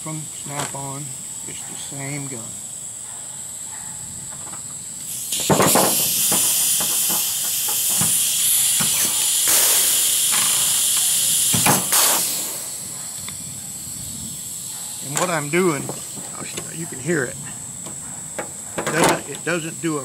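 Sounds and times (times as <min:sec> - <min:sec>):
compressed air hissing: 0:00.0 - 0:20.0.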